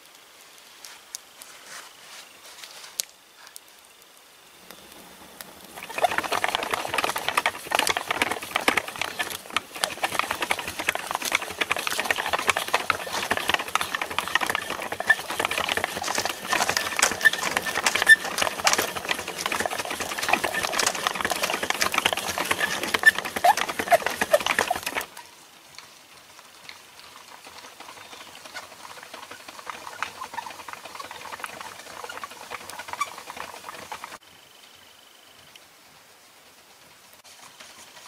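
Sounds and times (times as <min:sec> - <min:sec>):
wood fire crackling: 0:00.0 - 0:34.2.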